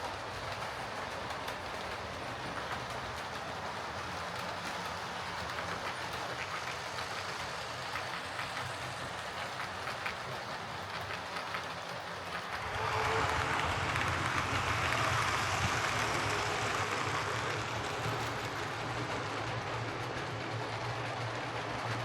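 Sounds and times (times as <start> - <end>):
model train motor hum: 0.0 - 22.0
wheels rolling on track: 0.0 - 22.0.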